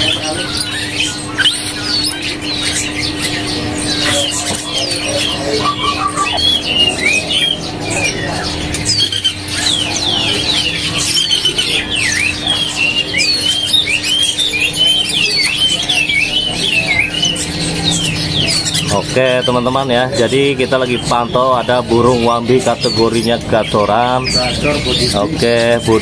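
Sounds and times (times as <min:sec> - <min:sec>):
songbirds chirping and singing: 0:00.0 - 0:26.0
steady low hum: 0:00.0 - 0:26.0.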